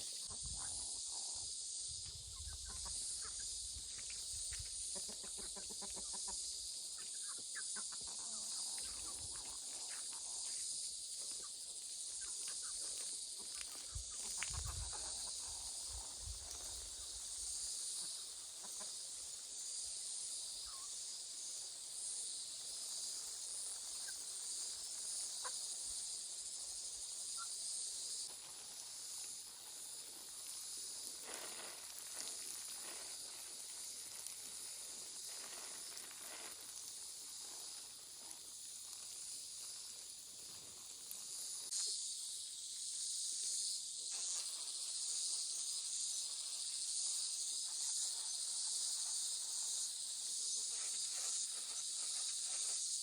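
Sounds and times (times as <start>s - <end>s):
insect chorus: 0.0s - 53.0s.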